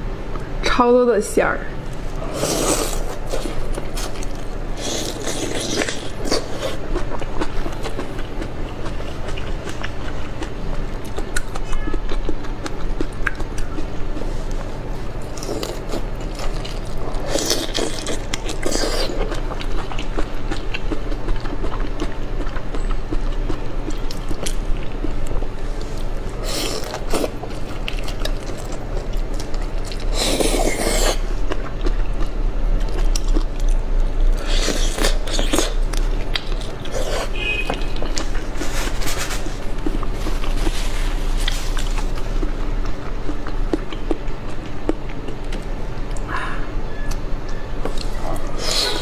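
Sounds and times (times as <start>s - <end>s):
prawns being peeled and chewed: 1.9s - 46.3s, 46.9s - 49.0s.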